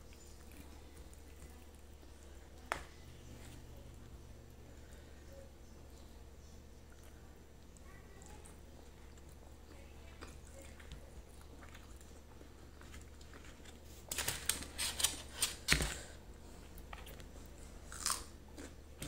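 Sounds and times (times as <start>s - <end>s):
quiet chewing: 0.0s - 19.0s.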